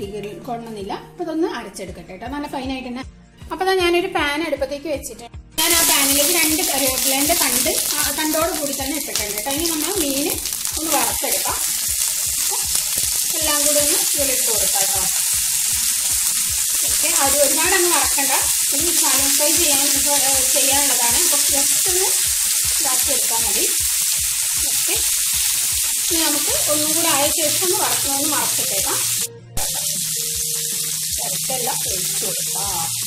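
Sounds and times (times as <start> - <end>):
fish frying in hot oil: 5.6 - 33.0.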